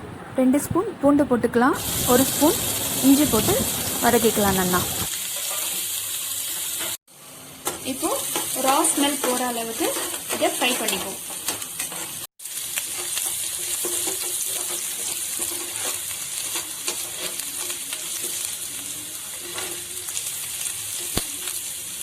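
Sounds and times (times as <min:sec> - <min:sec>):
garlic sizzling in hot oil: 0:01.8 - 0:22.0.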